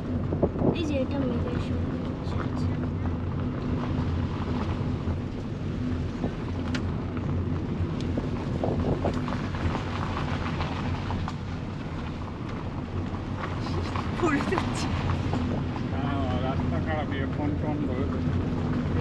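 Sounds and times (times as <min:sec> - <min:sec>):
engine and tyres droning: 0:00.0 - 0:19.0.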